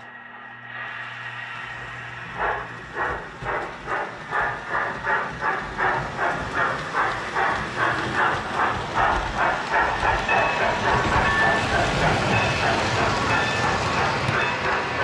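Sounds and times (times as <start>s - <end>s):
wheels rumbling on track: 1.6s - 15.0s
toy steam locomotive chuffing: 1.7s - 15.0s.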